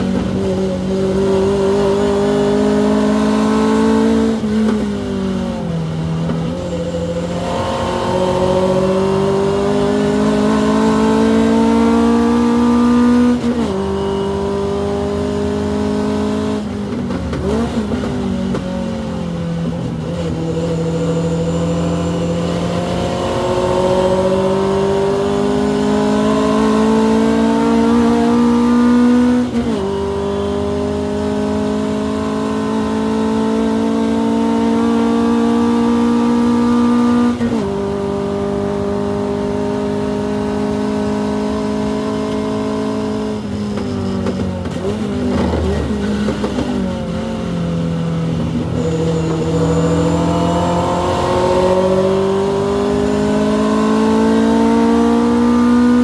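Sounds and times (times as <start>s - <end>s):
car engine accelerating hard: 0.0s - 43.6s, 44.2s - 56.0s.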